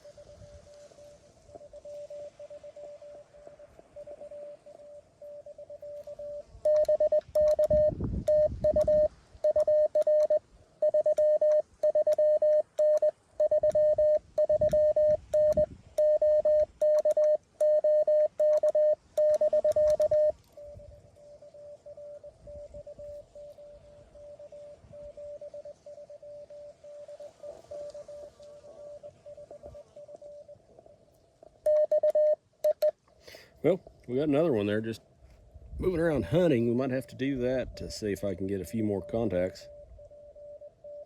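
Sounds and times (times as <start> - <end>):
loud morse code sidetone: 0.0 - 30.6, 31.7 - 32.9, 36.0 - 41.0
faint morse code tone: 0.0 - 35.0, 35.8 - 41.0.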